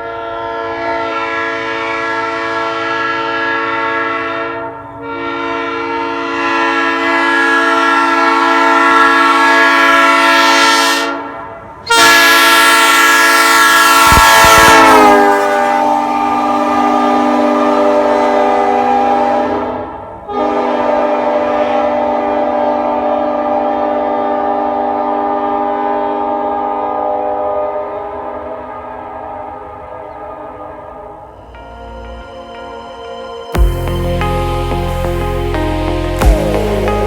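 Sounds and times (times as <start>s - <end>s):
train horn blasts: 0.0s - 34.8s.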